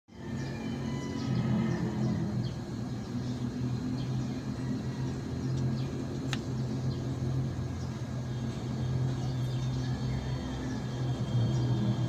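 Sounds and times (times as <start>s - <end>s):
low mechanical hum: 0.1s - 12.0s.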